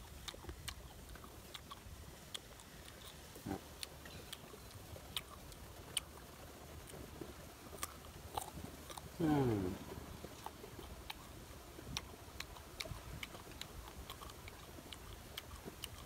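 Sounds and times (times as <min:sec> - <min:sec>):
mouth clicks and lip smacks chewing: 0:00.0 - 0:09.1, 0:10.2 - 0:16.0.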